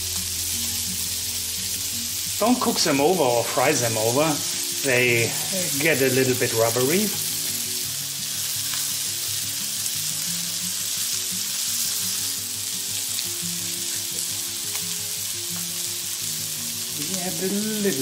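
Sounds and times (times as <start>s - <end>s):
shrimp sizzling in oil: 0.0s - 18.0s
soft background music: 0.0s - 18.0s.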